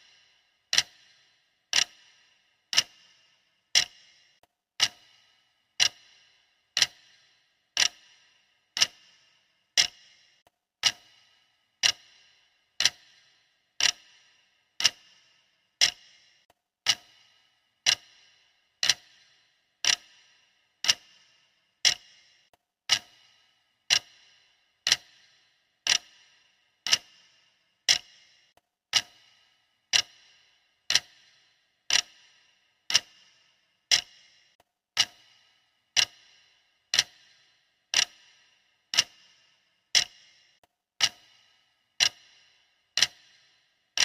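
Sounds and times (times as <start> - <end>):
clock ticking: 0.0 - 44.0.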